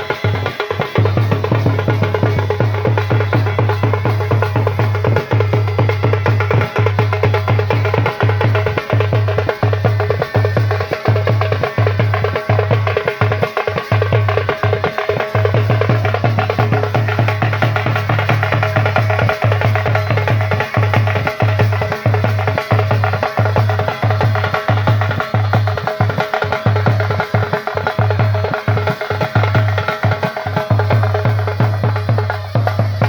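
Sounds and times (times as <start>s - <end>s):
fast drum beat: 0.0s - 33.0s.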